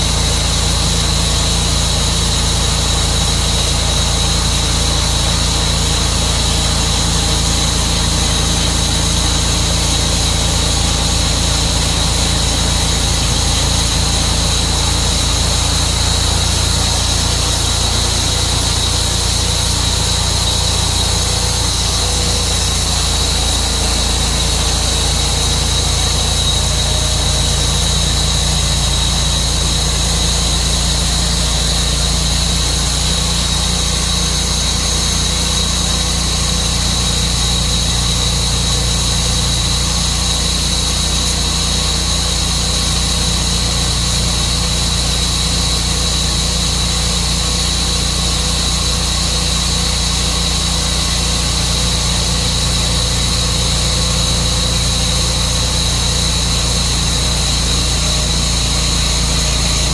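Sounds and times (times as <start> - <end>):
high-pitched whine: 0.0 - 59.9
sawmill engine hum: 0.0 - 59.9.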